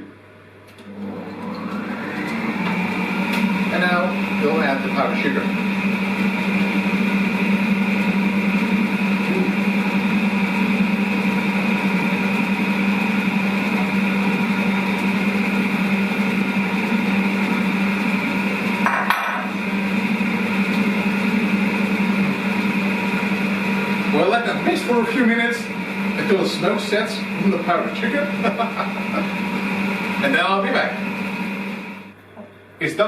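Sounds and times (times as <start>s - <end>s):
stand mixer whisking: 0.8s - 32.2s.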